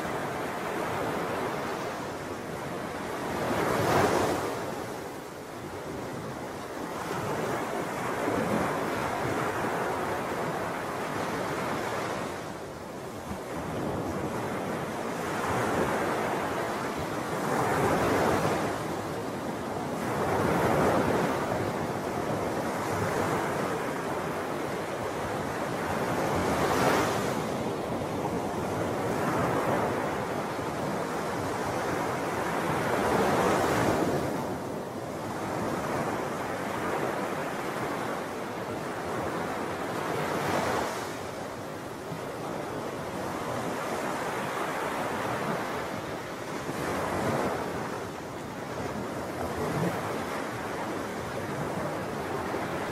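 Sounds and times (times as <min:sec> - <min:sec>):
wind: 0:00.0 - 0:52.9.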